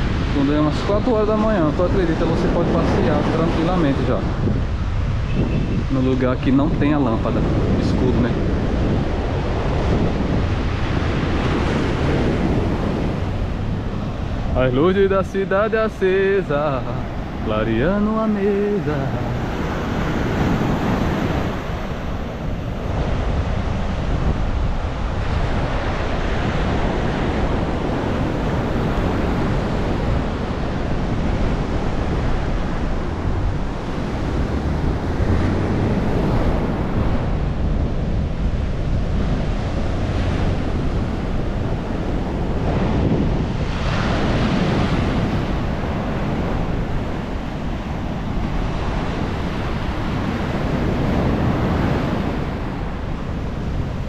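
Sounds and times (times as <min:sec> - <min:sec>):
sea surf breaking: 0:00.0 - 0:54.0
wind buffeting microphone: 0:00.0 - 0:54.0.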